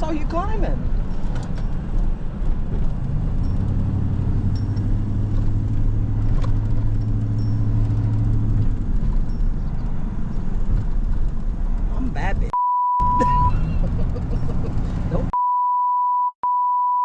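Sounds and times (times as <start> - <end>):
motor vehicle engine drone: 0.0 - 15.3.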